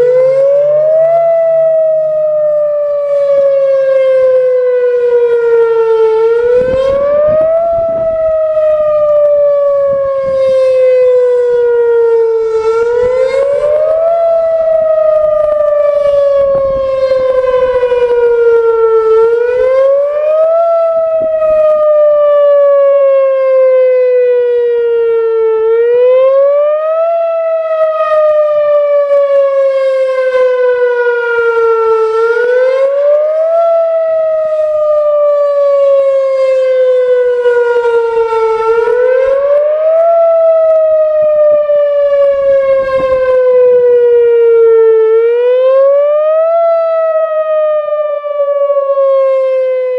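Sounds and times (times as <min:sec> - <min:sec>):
tornado siren wailing: 0:00.0 - 0:49.9.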